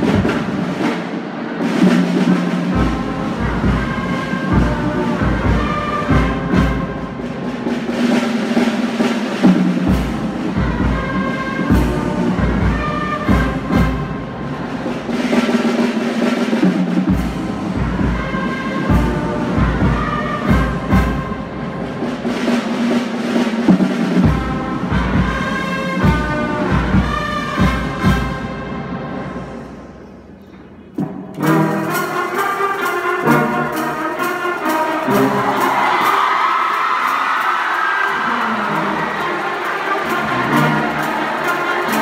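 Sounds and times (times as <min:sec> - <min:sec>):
steady drum beat: 0:00.0 - 0:28.9, 0:31.0 - 0:42.0
brass band playing chords: 0:00.0 - 0:42.0.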